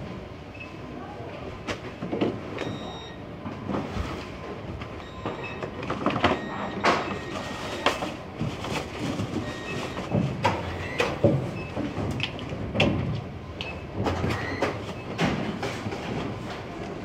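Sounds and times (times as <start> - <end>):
warehouse machinery rumble: 0.0 - 17.0.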